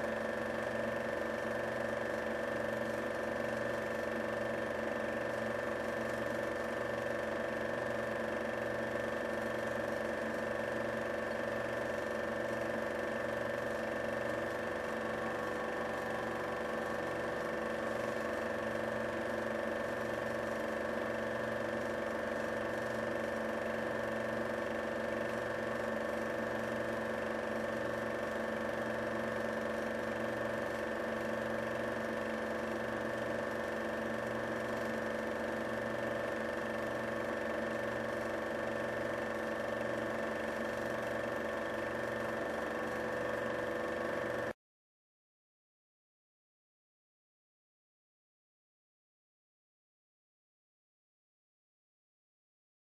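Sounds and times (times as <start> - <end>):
film projector whirring: 0.0 - 44.6.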